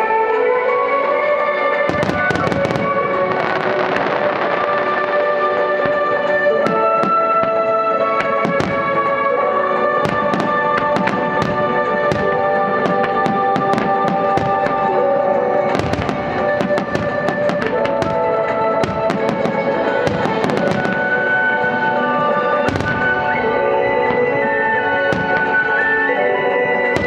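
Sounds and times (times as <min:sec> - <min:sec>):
music with long held chords: 0:00.0 - 0:27.0.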